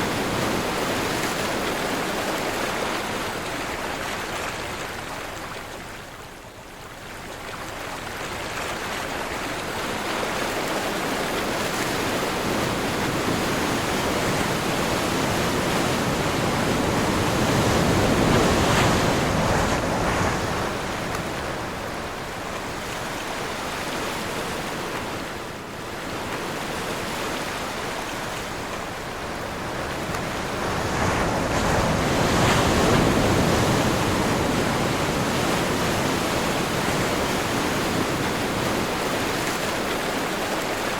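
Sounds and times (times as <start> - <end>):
waves breaking and washing in: 0.0 - 40.9
wind: 0.0 - 40.9.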